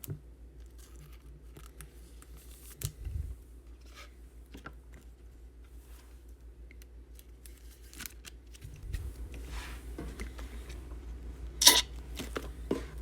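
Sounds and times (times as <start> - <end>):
steady low hum: 0.0 - 7.8, 8.5 - 13.0.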